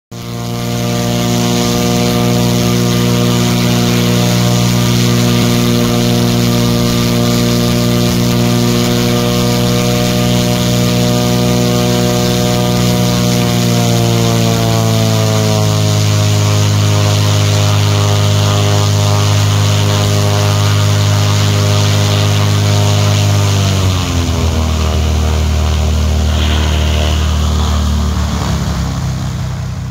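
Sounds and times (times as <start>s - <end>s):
aircraft engine running: 0.2s - 29.9s.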